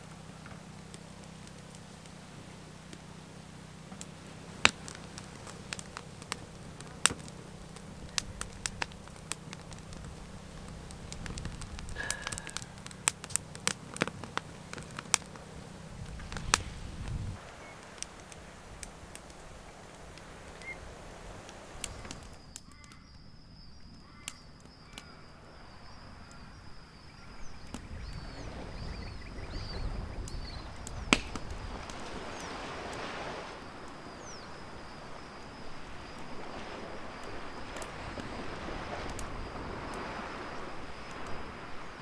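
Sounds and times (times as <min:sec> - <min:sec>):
campfire crackling and popping: 0:00.0 - 0:42.0
outdoor ambience: 0:00.0 - 0:42.0.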